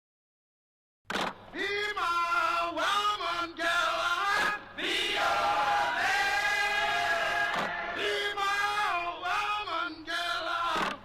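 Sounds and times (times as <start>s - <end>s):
voices singing together: 1.6s - 11.0s.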